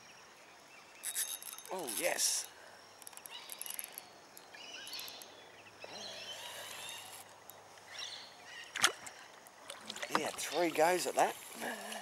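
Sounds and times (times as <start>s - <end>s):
birds chirping: 0.0s - 9.4s, 10.1s - 12.0s.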